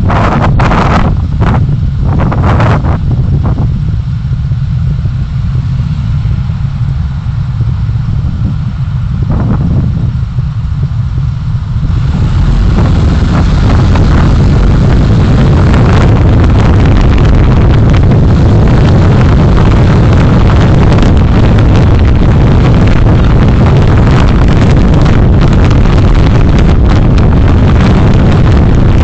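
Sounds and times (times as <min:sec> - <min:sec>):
vehicle road noise: 0:00.0 - 0:29.0
wind buffeting the microphone: 0:00.0 - 0:29.0.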